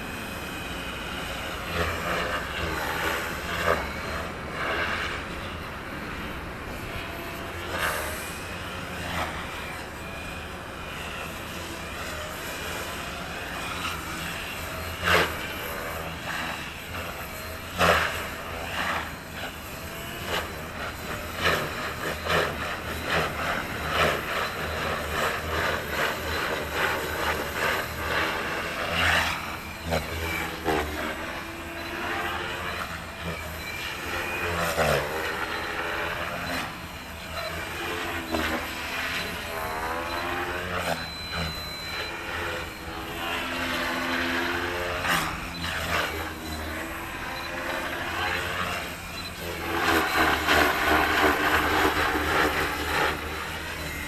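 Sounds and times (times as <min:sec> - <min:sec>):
helicopter rotor whirring: 0:00.0 - 0:54.0.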